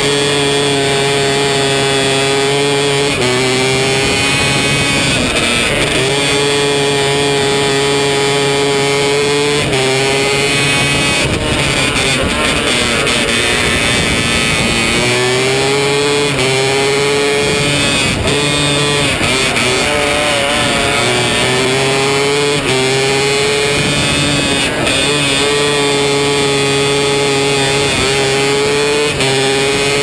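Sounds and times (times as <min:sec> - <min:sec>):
race car engine at full throttle: 0:00.0 - 0:30.0.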